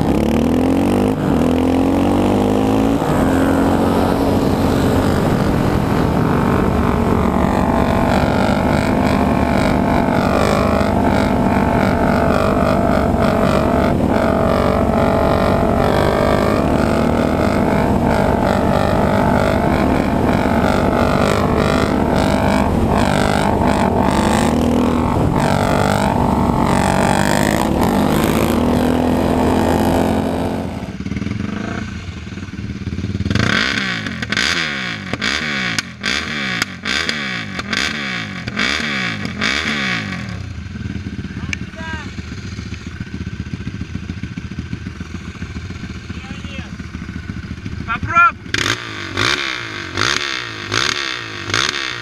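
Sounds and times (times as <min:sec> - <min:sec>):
quad engines revving: 0:00.0 - 0:31.8, 0:33.2 - 0:52.0.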